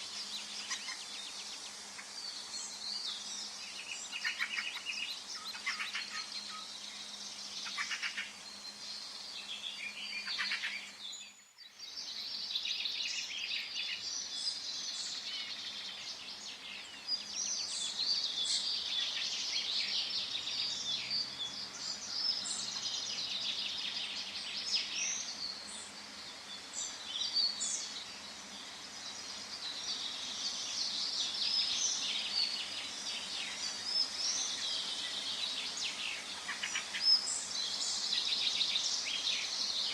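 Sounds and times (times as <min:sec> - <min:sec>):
birds chirping and trilling: 0:00.0 - 0:39.9
faint background hiss: 0:00.0 - 0:39.9.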